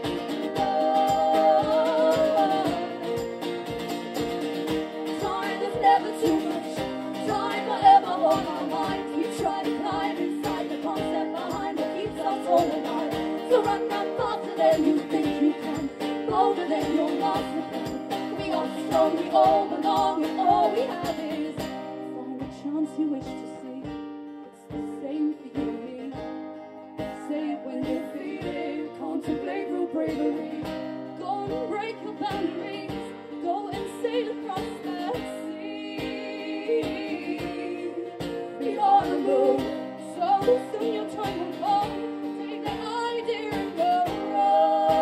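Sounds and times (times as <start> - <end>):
wordless vocals: 0.0 - 3.9, 4.5 - 24.0, 27.0 - 45.0
acoustic guitars strummed: 0.0 - 45.0.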